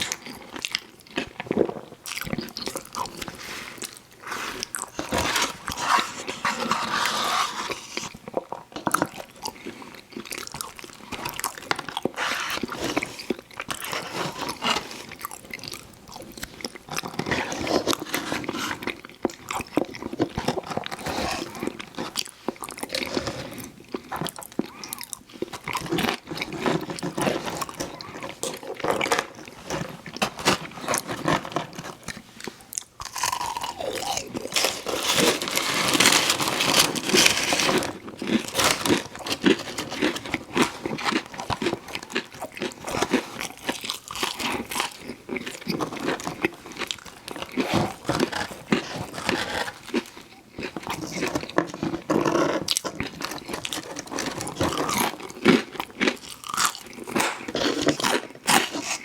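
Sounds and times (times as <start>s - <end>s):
crunchy eating and wet chewing: 0.0s - 59.0s.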